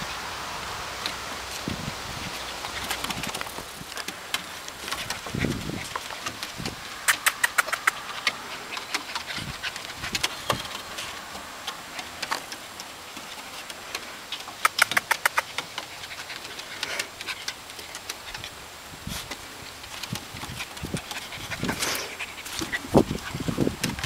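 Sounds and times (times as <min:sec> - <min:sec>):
puppy claws clicking on wooden deck: 0:02.3 - 0:24.0.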